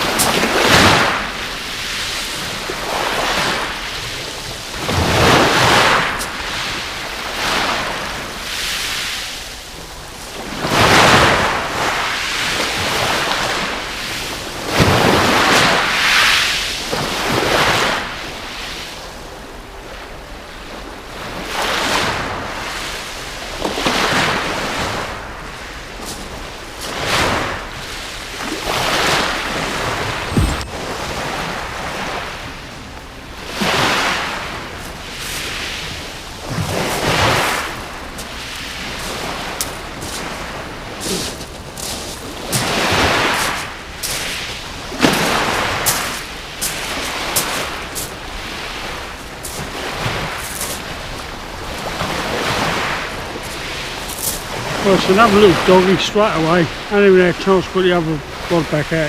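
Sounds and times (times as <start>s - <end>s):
sea waves breaking on beach: 0.0s - 18.8s, 23.8s - 59.0s.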